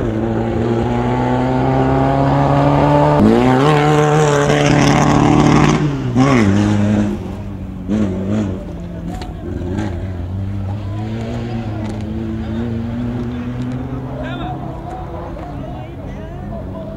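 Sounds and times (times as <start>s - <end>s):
race vehicle engine passing by: 0.0s - 16.9s.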